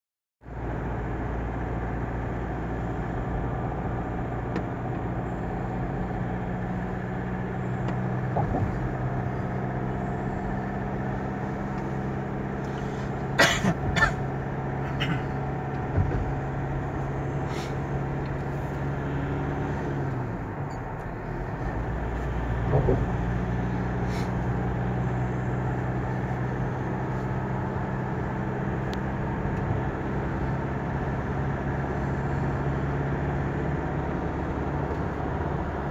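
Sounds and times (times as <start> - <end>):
engine drone: 0.4 - 35.9
road and tyre rumble: 0.4 - 35.9.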